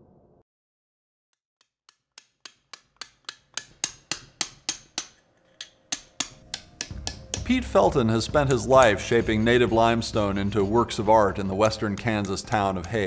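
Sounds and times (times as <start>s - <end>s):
hammer tapping chisel into stone: 1.6s - 9.9s, 10.6s - 13.0s.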